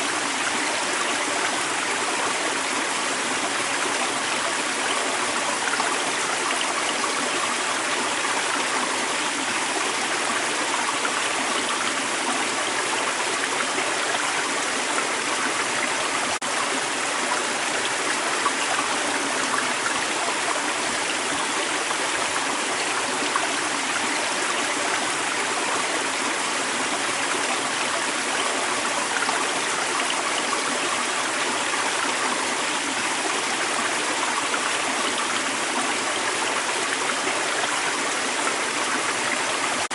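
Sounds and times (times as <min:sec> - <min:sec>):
creek water over rocks: 0:00.0 - 0:39.9.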